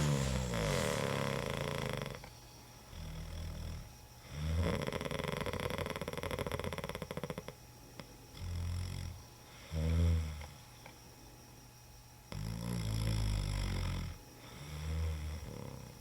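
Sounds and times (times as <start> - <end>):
man snoring with rattling: 0.0 - 2.3, 2.9 - 7.6, 8.4 - 10.6, 12.3 - 16.0.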